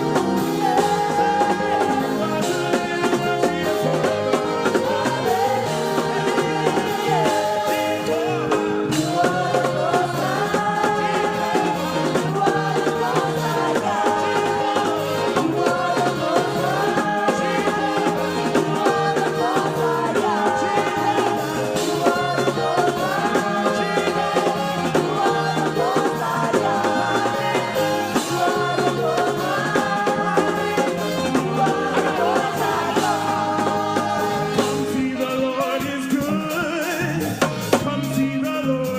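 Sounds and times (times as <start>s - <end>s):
drums and percussion beat: 0.0s - 38.9s
gospel singing: 0.0s - 38.9s.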